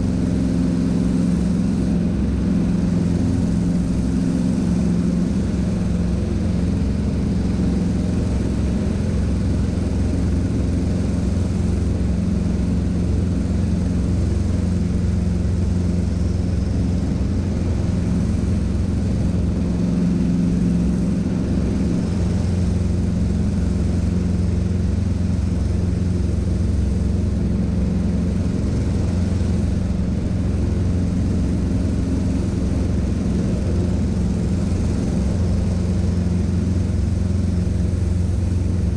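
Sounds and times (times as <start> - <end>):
light aircraft engine and propeller: 0.0 - 38.9.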